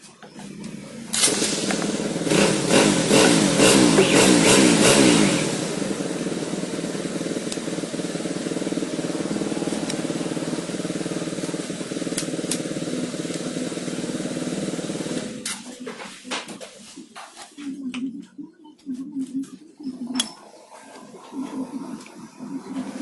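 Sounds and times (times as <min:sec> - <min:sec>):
motorcycle engine revving and idling: 0:00.0 - 0:16.6, 0:21.0 - 0:23.0.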